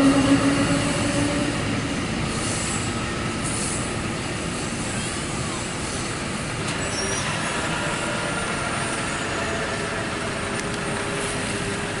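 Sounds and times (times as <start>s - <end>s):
commuter train rolling past: 0.0s - 12.0s.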